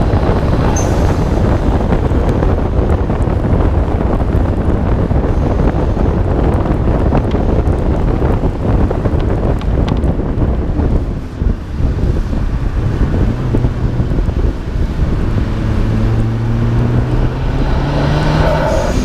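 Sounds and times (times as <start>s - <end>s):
car running and tyre noise: 0.0s - 19.0s
wind buffeting microphone: 0.0s - 19.0s.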